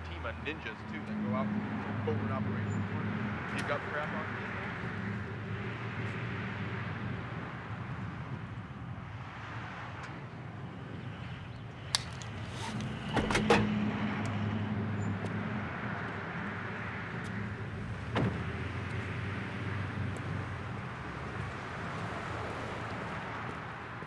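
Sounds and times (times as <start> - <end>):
traffic hum: 0.0 - 24.0.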